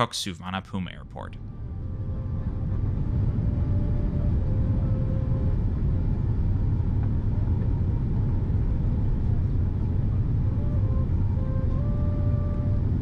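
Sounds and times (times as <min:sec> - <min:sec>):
low rumble of jet engines: 0:00.0 - 0:13.0
faint thin whine: 0:01.4 - 0:13.0.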